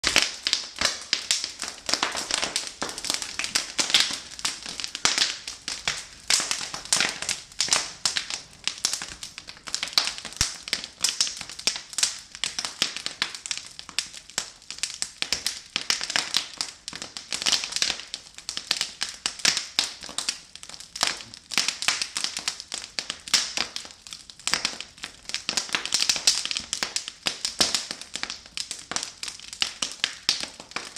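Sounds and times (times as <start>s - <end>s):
fire crackling: 0.0s - 30.9s.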